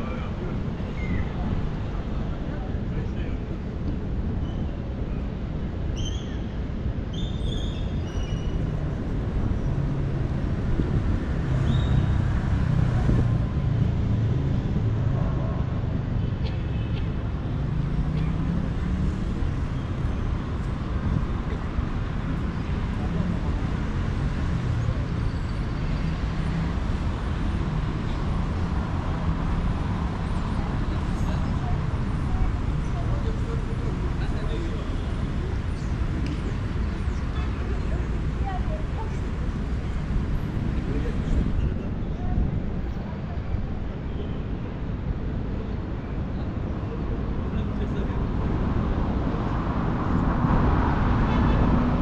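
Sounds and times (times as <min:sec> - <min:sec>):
city traffic rumbling: 0:00.0 - 0:52.0.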